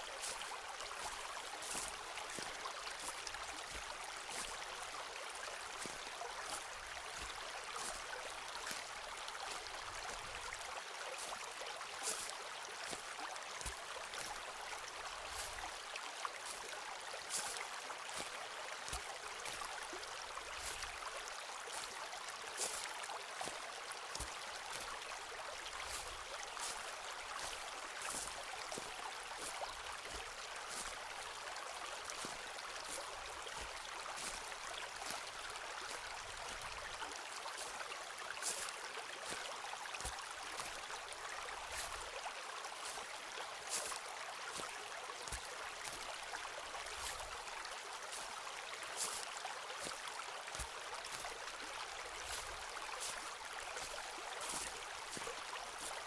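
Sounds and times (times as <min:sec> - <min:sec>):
footsteps on woodland path: 0:00.0 - 0:56.0
forest stream flowing: 0:00.0 - 0:56.0.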